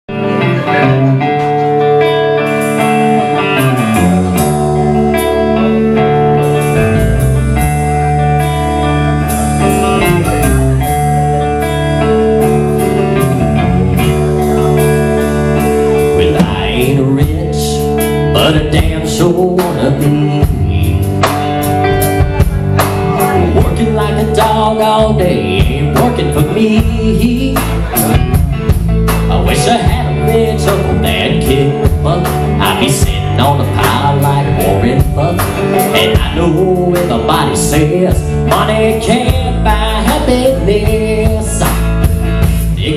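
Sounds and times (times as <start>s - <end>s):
electric bass: 0.0s - 42.9s
drum kit: 0.1s - 42.9s
electric guitar: 0.1s - 42.9s.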